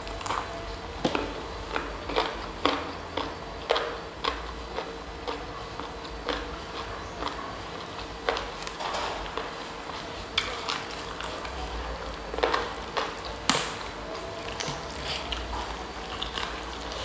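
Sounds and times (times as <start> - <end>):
chewing with wet smacks: 0.0 - 17.0.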